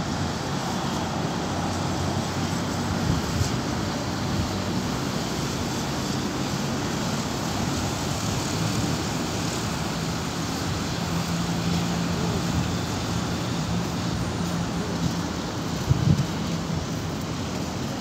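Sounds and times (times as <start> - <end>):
distant jet engine rumble: 0.0 - 18.0
street traffic: 0.0 - 18.0.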